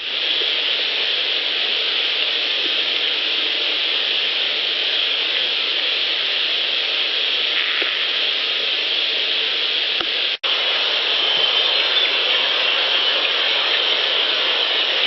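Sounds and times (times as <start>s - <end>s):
recorder hiss: 0.0s - 15.0s.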